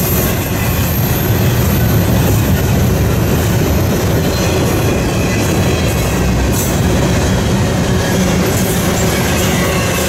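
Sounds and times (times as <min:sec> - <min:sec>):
train wheels running on rails: 0:00.0 - 0:10.0.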